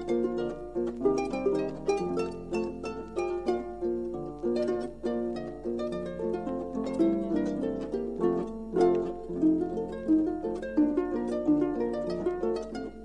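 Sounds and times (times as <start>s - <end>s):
solo harp folk piece: 0.0s - 13.0s.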